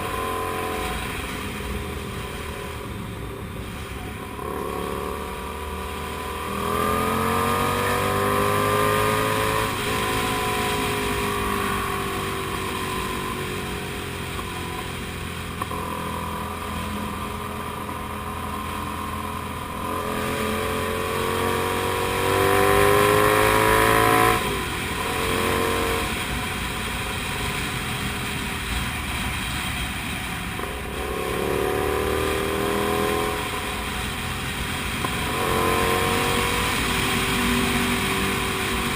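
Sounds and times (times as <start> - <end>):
motorcycle engine revving: 0.0 - 3.4, 4.0 - 38.9.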